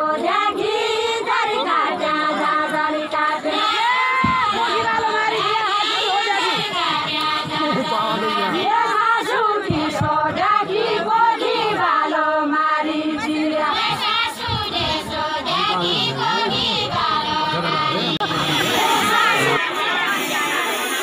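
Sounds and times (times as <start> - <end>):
women singing in chorus: 0.0 - 21.0.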